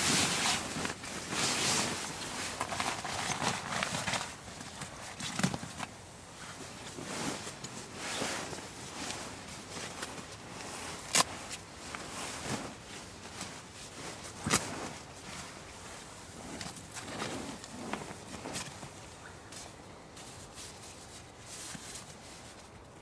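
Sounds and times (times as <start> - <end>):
fabric rustling and crinkling: 0.0 - 23.0.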